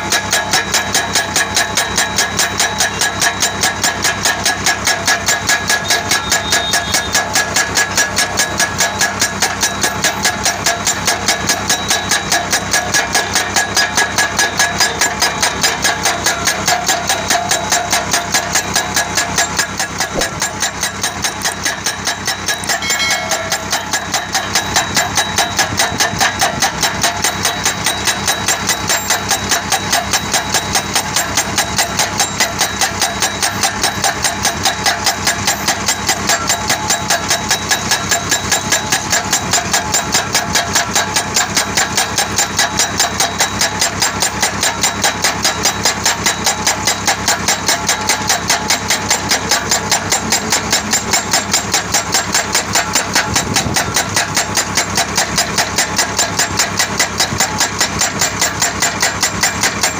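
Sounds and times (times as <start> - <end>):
hydraulic breaker hammering: 0.0 - 59.9
tractor engine running: 0.0 - 59.9.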